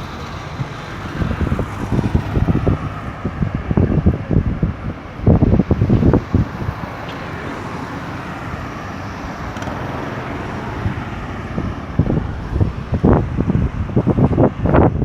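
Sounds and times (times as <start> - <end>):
vehicle passing: 0.0 - 15.0
wind buffeting microphone: 0.0 - 15.0.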